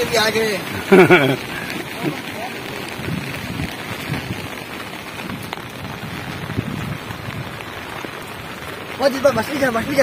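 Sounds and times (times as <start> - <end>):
falling rain: 0.0 - 10.0
floodwater rushing over causeway: 0.0 - 10.0.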